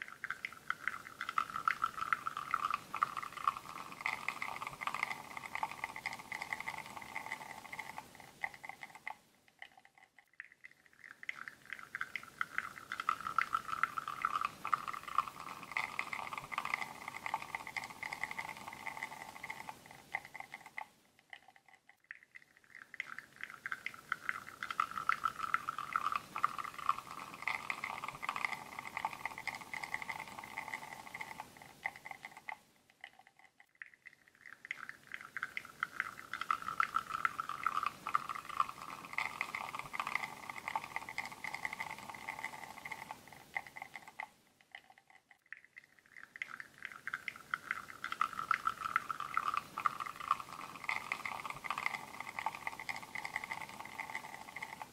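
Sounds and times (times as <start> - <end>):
espresso streaming into cup: 0.0 - 9.0, 11.5 - 20.8, 23.2 - 32.5, 35.2 - 44.2, 47.1 - 54.9.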